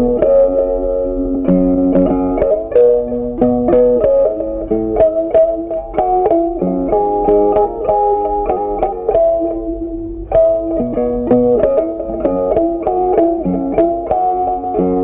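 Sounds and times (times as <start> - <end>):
plucked guitar tune: 0.0 - 15.0.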